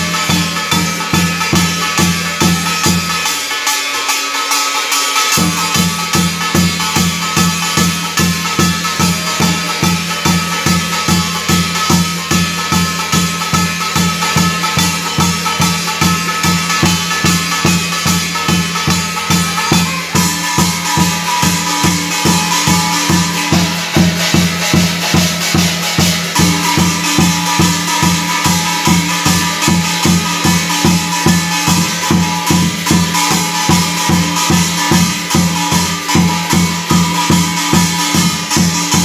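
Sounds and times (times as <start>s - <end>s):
small drums and brass gongs: 0.0s - 39.0s
steady held tones: 0.0s - 39.0s.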